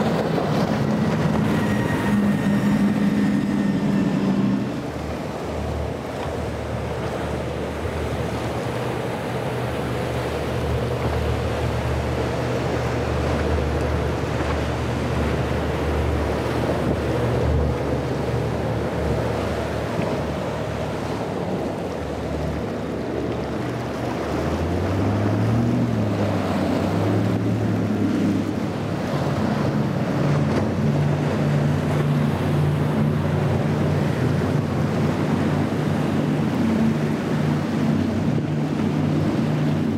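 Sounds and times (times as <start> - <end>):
motorboat engines running: 0.0 - 39.9
water rushing and splashing: 0.0 - 39.9
wind buffeting microphone: 0.0 - 39.9.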